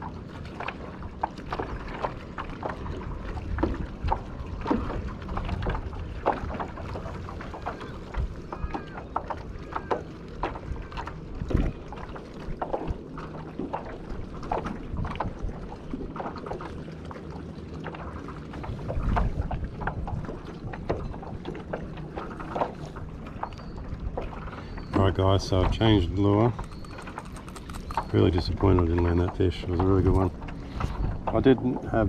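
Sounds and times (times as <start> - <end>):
small waves slapping kayak hull: 0.0 - 32.0
wind: 0.0 - 32.0.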